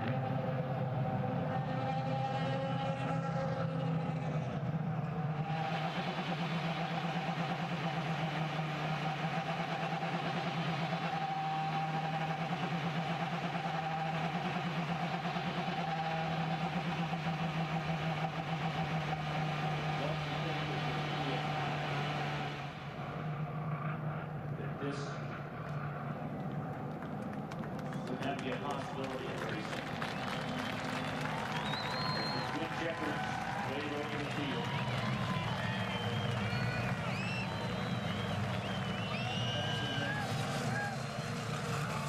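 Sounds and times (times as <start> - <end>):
racing car engine at high pitch: 0.0 - 42.0.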